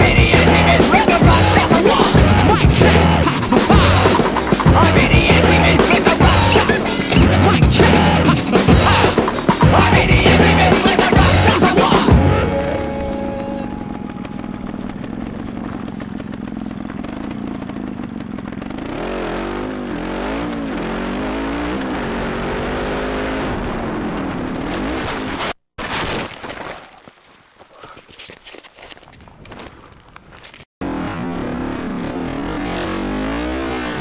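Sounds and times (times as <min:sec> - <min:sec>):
motorcycle engine revving: 0:00.0 - 0:25.5, 0:30.8 - 0:34.0.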